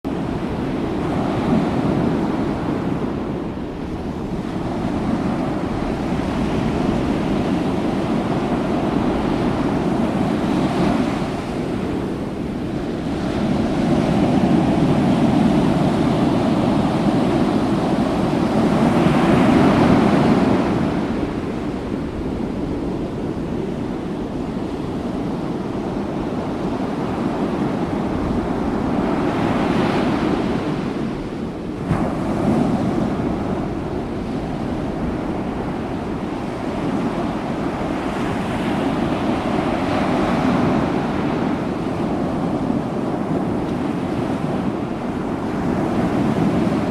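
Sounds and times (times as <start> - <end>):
ocean waves breaking on beach: 0.1 - 46.9.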